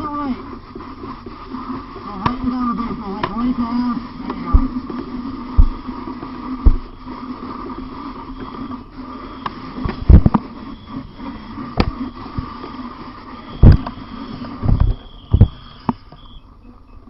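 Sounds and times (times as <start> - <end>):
steady drone: 0.0 - 17.0.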